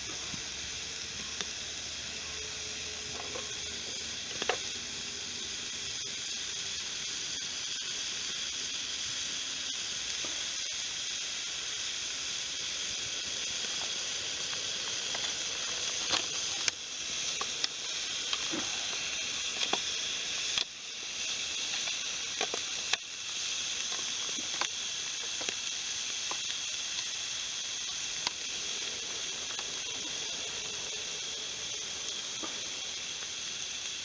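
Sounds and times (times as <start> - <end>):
wood fire popping: 0.0 - 8.8, 9.8 - 34.0
steak sizzling in a pan: 0.0 - 34.0.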